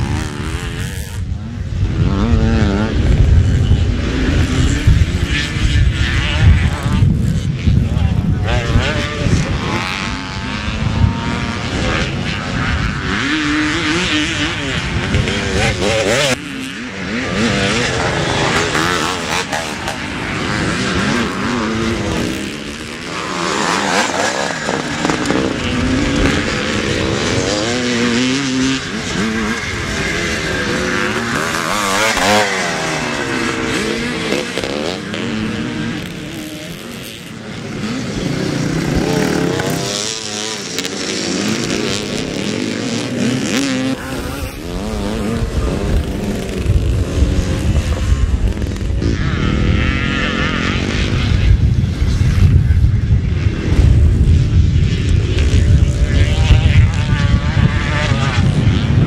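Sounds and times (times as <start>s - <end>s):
motocross motorcycles revving: 0.0s - 59.0s.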